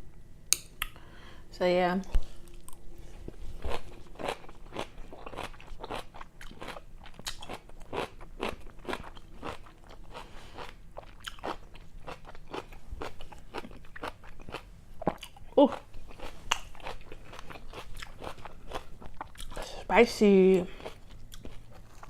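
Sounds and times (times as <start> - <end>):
chewing crunchy food: 2.4 - 19.8, 20.6 - 22.0.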